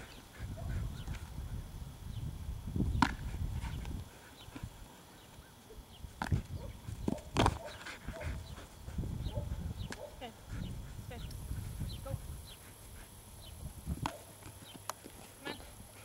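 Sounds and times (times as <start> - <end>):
wind rumbling on microphone: 0.0 - 4.8, 6.0 - 14.2.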